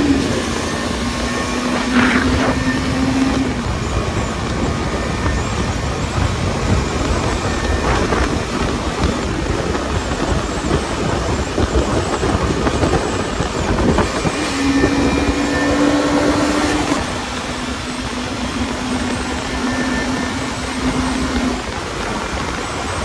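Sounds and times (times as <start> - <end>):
motorcycle engine cruising: 0.0 - 23.0
wind rush on microphone: 0.0 - 23.0.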